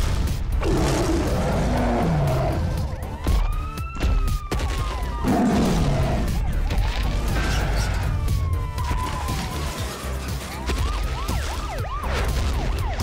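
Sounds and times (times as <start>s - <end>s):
cartoon action music: 0.1s - 13.0s.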